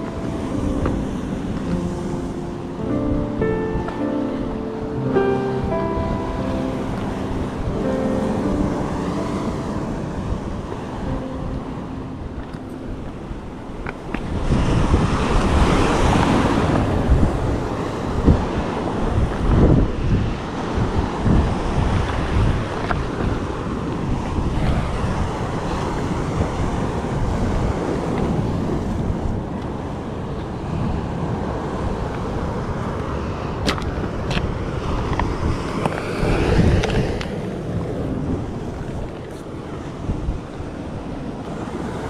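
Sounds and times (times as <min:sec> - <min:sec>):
wind rumbling on microphone: 0:00.0 - 0:42.0.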